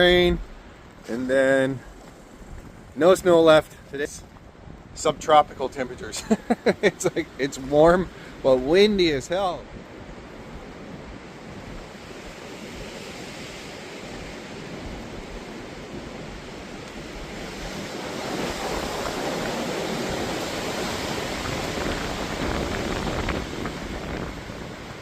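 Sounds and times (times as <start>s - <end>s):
strong wind buffeting microphone: 1.9s - 25.0s.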